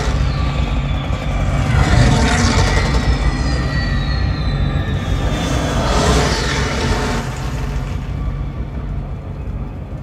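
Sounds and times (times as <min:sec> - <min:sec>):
deep steady rumble: 0:00.0 - 0:10.0.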